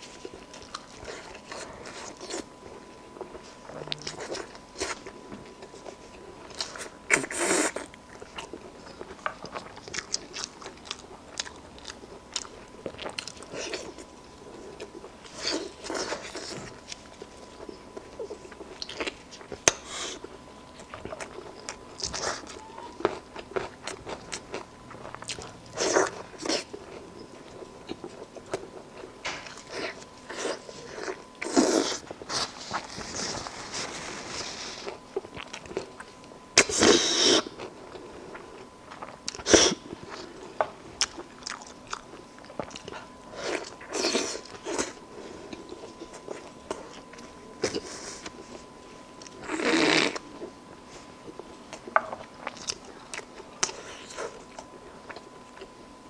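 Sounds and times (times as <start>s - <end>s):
chewing meat: 0.0s - 56.0s.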